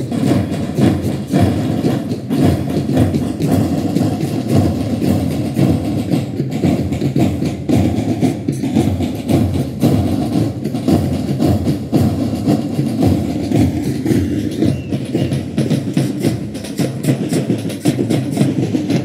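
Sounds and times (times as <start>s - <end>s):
marching band drums: 0.0s - 19.0s.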